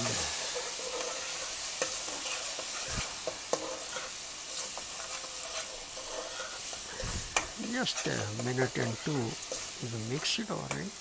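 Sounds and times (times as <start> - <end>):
metal spoon scraping pan: 0.0 - 10.8
vegetables sizzling in hot oil: 0.0 - 11.0.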